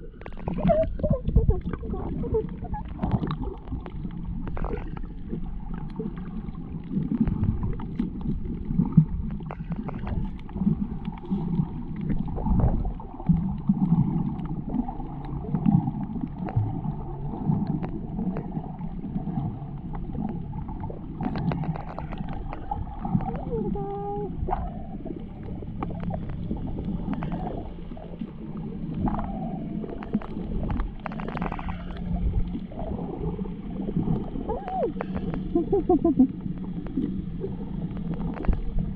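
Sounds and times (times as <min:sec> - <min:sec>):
muffled underwater water sloshing: 0:00.0 - 0:38.9.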